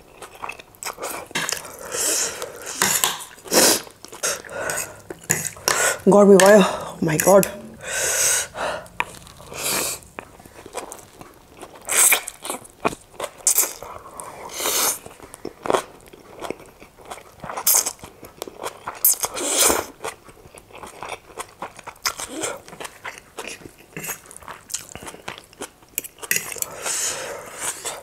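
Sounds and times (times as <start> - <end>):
chewing: 0.1 - 28.0.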